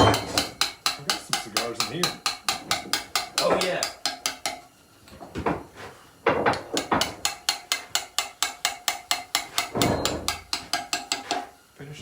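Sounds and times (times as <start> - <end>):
hammer and chisel on stone: 0.0 - 4.7, 6.3 - 11.5.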